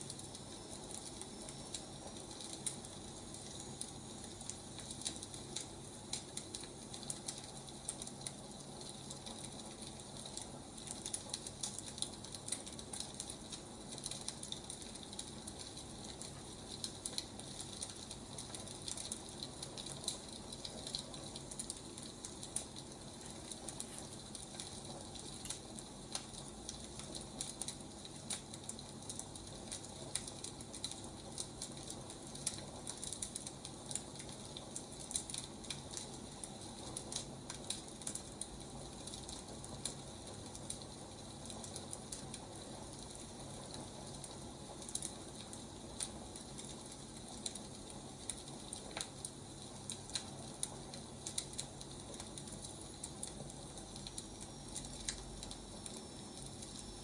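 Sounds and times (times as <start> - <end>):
firewood crackling and hissing: 0.0 - 57.0.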